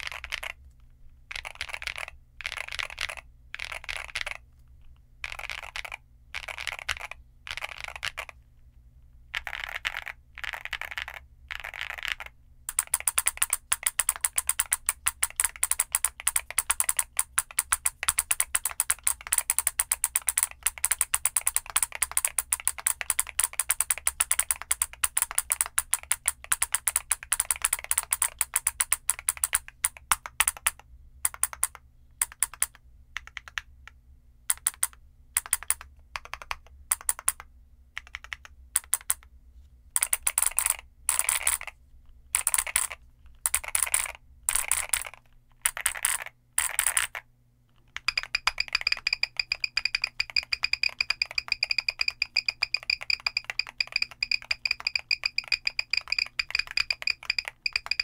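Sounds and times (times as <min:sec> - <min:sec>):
fast typing on mechanical keyboard: 0:00.0 - 0:00.6, 0:01.3 - 0:04.4, 0:05.2 - 0:08.4, 0:09.3 - 0:33.6, 0:34.5 - 0:37.4, 0:38.0 - 0:39.2, 0:40.0 - 0:41.7, 0:42.4 - 0:47.2, 0:47.9 - 0:58.0.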